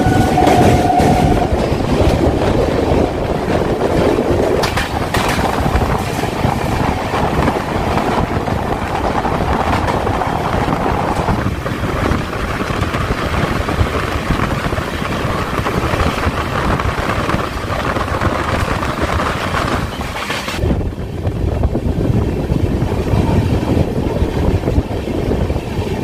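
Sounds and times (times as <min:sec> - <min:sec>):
passenger train running: 0:00.0 - 0:26.0
wind on microphone: 0:00.0 - 0:26.0.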